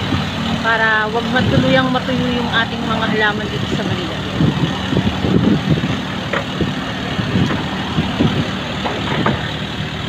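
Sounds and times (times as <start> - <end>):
passing vehicles: 0.0 - 10.0
truck engine idling: 0.0 - 10.0.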